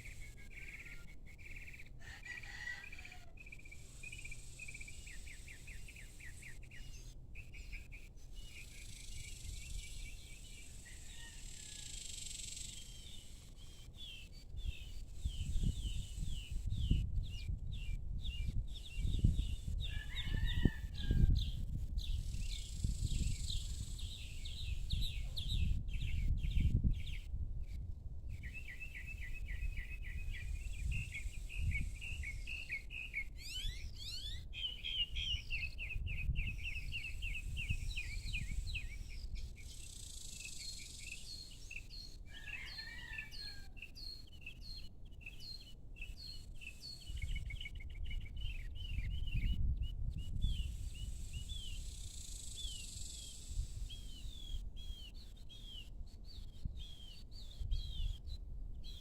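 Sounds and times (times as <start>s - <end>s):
small birds chirping in trills: 0.0s - 59.0s
wind rumble on microphone: 5.0s - 11.4s, 12.5s - 59.0s.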